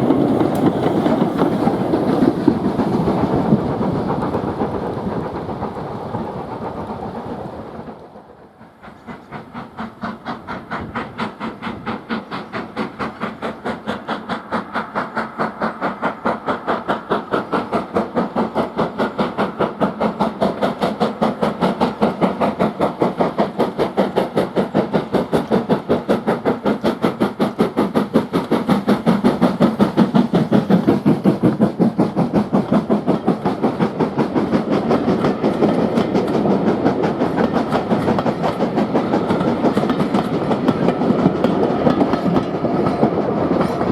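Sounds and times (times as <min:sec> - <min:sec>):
steam locomotive exhaust beats: 0:00.0 - 0:43.9.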